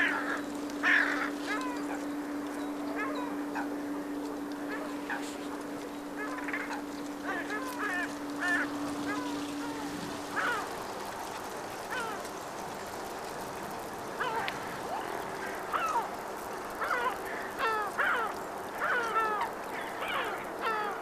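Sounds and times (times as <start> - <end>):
gulls calling: 0.0 - 21.0
steady background noise: 0.0 - 21.0.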